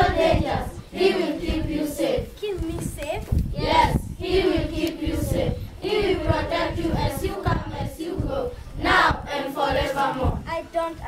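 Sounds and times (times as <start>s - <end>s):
children singing unaccompanied: 0.0s - 2.5s, 3.5s - 11.0s.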